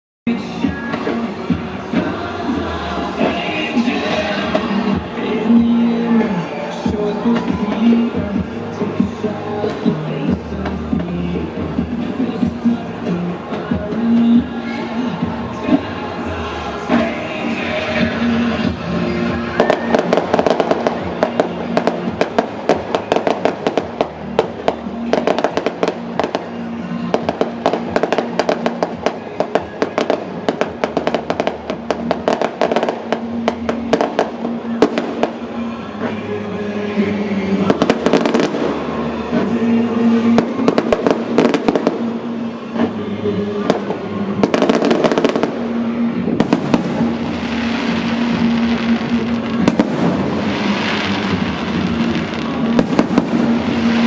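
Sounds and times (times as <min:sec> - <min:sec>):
fireworks bangs and crackles: 0:00.3 - 0:36.4, 0:37.1 - 0:54.0
background music: 0:00.3 - 0:54.0.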